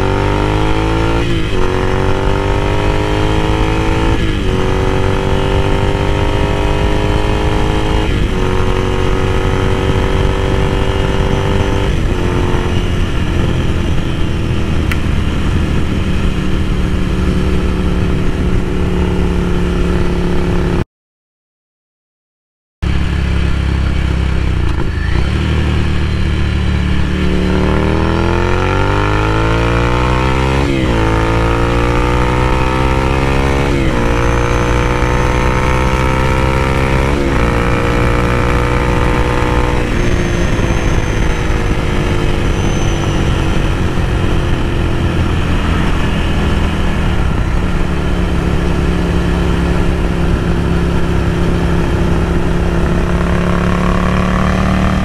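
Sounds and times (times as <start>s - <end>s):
motorcycle engine revving through gears: 0.0s - 20.8s, 22.9s - 55.0s.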